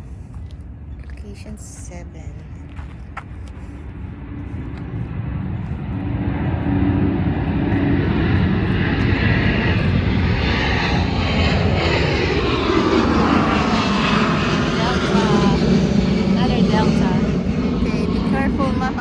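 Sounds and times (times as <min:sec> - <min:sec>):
jet airliner flying past: 0:00.0 - 0:19.0.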